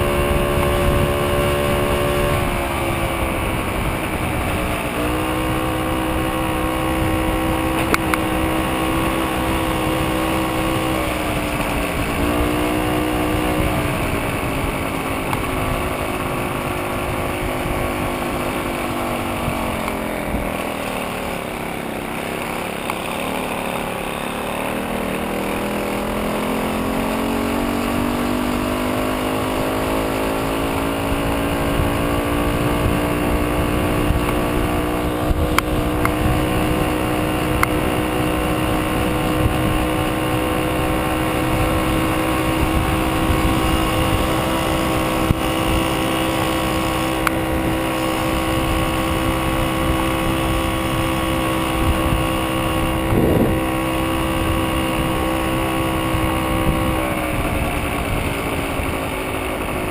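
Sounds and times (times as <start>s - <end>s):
wind rumble on microphone: 0.0s - 20.6s, 30.8s - 59.9s
moped two-stroke engine running: 0.0s - 59.9s.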